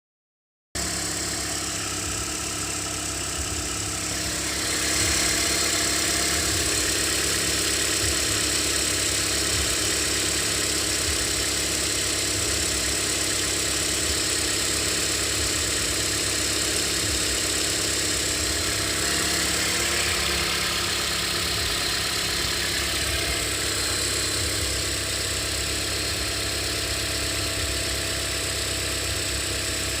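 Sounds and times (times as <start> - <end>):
car engine idling: 0.8 - 30.0.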